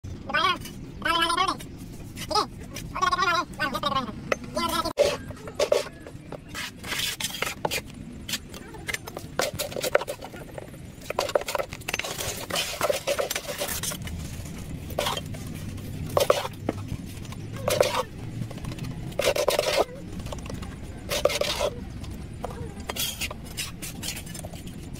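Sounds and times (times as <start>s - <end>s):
trowel scraping on concrete: 4.7s - 24.9s.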